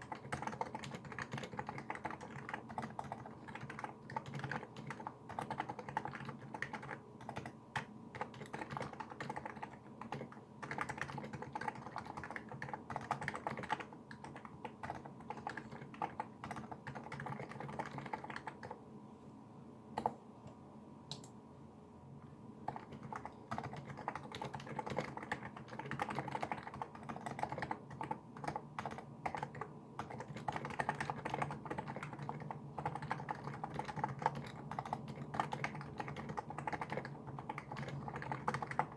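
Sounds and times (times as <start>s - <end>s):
keyboard typing: 0.0s - 18.8s, 20.0s - 20.2s, 22.6s - 38.9s.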